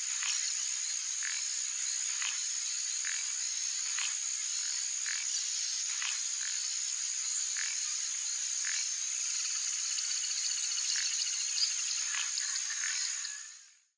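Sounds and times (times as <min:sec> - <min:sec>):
high-pitched insect trill: 0:00.1 - 0:13.8.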